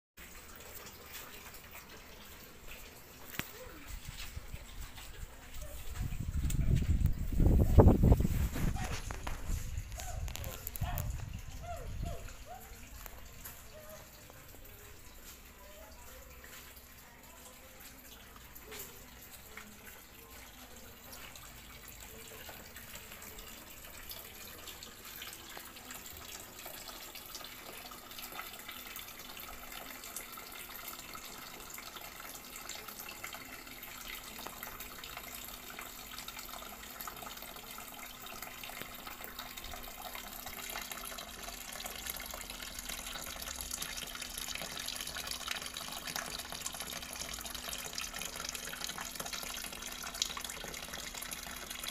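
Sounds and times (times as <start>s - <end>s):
water trickling into tub: 0.2s - 51.9s.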